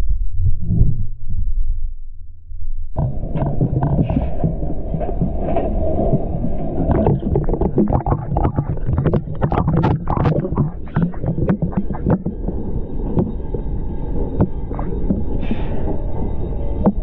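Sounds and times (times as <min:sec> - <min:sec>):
steam locomotive low rumble: 0:00.3 - 0:17.0.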